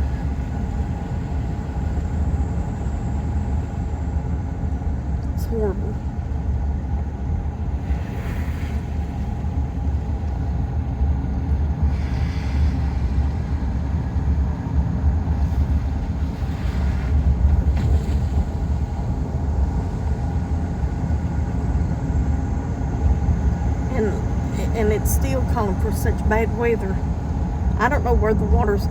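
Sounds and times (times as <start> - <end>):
car engine and tyre noise: 0.0 - 24.9.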